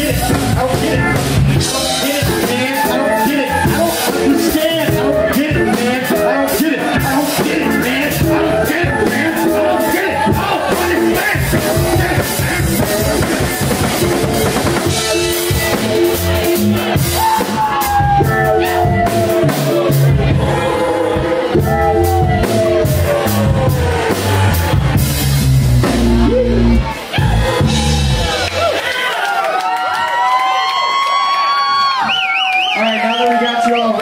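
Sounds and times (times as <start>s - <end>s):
bass guitar: 0.0s - 28.9s
drum kit beat: 0.0s - 29.0s
electric guitar: 0.1s - 28.7s.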